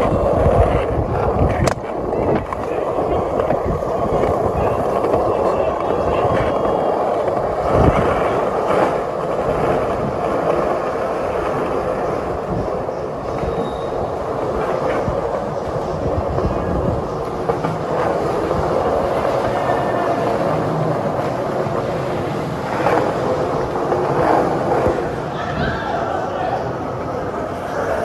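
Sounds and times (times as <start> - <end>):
skate wheels rolling on pavement: 0.0 - 28.0.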